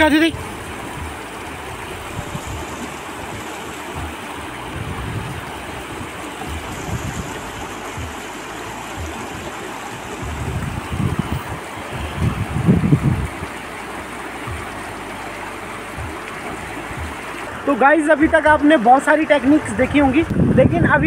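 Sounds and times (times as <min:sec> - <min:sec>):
low rumbles: 0:00.0 - 0:21.0
river running over rocks: 0:00.0 - 0:21.0.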